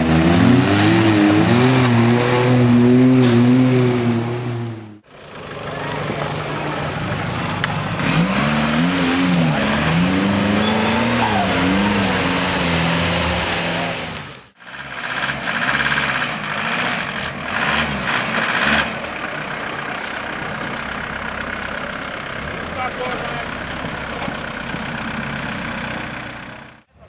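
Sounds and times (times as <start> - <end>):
off-road engine revving: 0.0 - 26.9.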